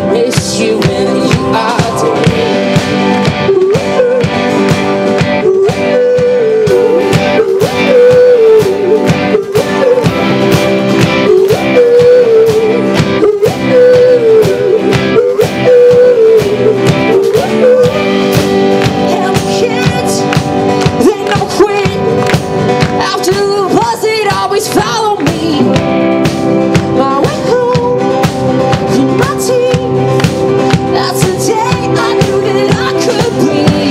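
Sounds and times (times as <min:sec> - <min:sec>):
person singing: 0:00.0 - 0:33.9
strummed guitar chords: 0:00.0 - 0:33.9.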